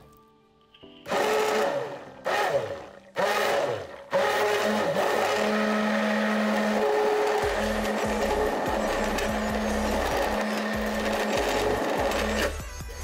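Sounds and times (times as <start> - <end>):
hand blender running: 1.1 - 12.6.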